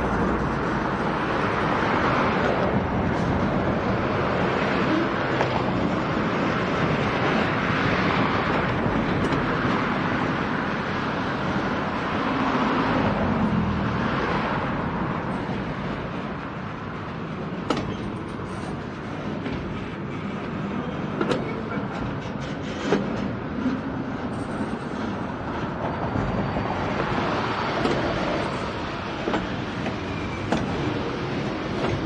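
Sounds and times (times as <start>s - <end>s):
freight cars rolling on track: 0.0s - 32.0s.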